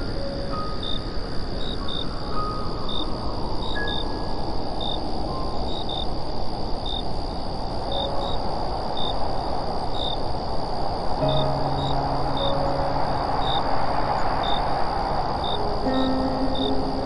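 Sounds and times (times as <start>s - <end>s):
crickets chirping: 0.0s - 17.0s
steady rushing noise: 0.0s - 17.0s.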